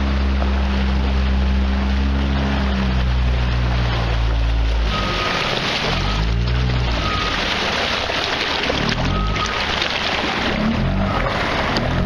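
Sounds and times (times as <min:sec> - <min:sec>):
water wash: 0:00.0 - 0:12.0.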